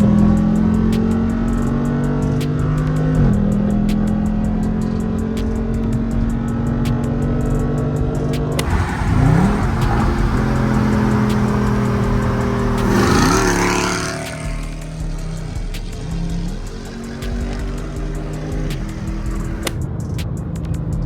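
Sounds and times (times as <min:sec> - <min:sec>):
car engine revving: 0:00.0 - 0:19.8
exhaust rush: 0:00.0 - 0:20.0
music with steady beat: 0:00.0 - 0:21.0.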